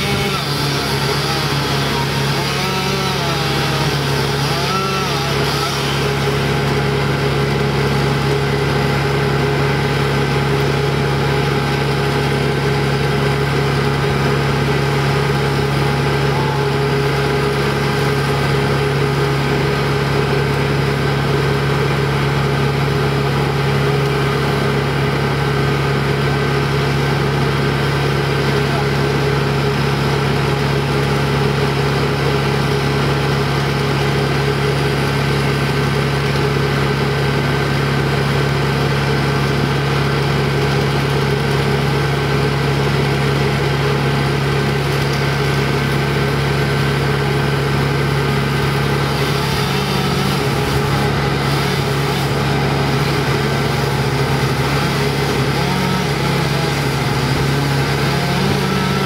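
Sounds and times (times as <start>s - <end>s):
chainsaw cutting wood: 0.0s - 59.0s
small petrol engine humming: 0.0s - 59.0s.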